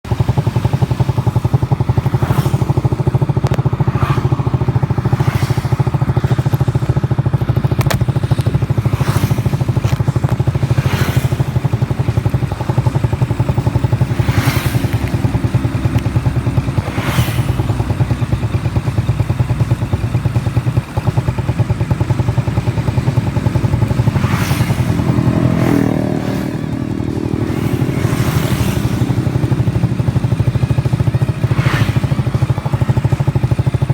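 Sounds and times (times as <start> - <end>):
motorcycle engine at high revs: 0.0 - 33.9.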